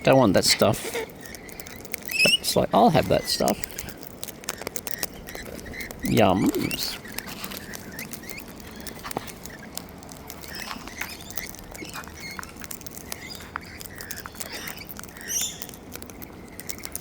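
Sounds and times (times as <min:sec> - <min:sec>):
beaks cracking seeds: 0:00.0 - 0:17.0
parrots chirping: 0:00.0 - 0:17.0.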